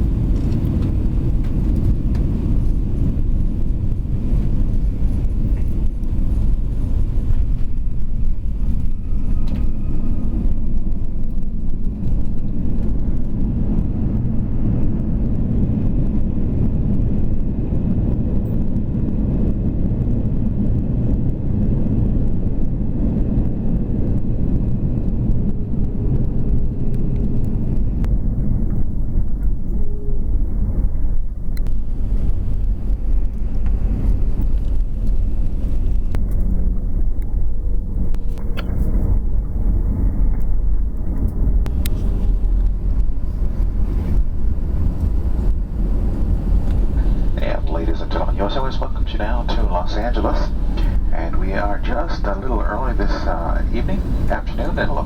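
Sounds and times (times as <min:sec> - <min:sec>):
airliner cabin low rumble: 0:00.0 - 0:55.0.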